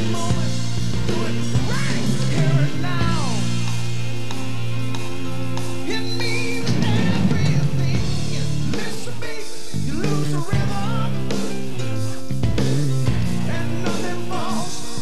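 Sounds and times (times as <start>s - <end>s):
rock music with guitar and singing: 0.0s - 15.0s.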